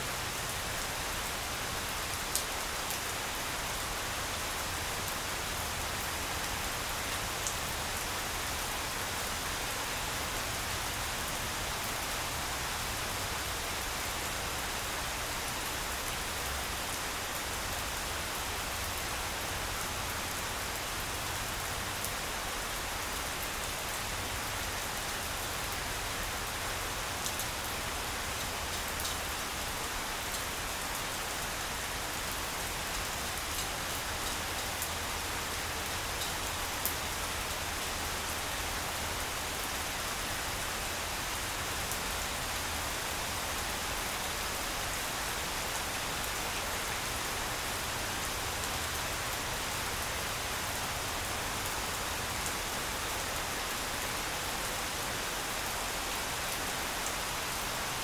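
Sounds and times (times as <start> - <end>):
rain falling on lawn: 0.0 - 58.0.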